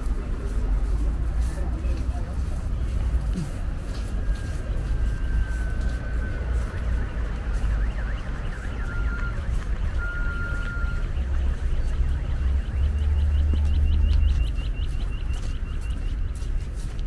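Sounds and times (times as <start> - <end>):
cars driving on wet road: 0.0 - 17.0.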